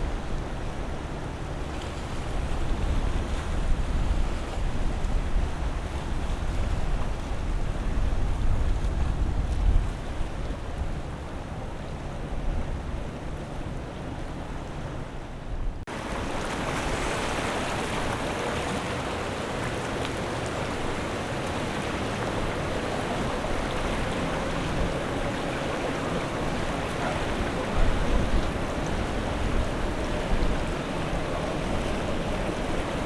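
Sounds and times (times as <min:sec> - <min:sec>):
waves breaking: 0:00.0 - 0:33.0
wind rumble on microphone: 0:00.0 - 0:33.0.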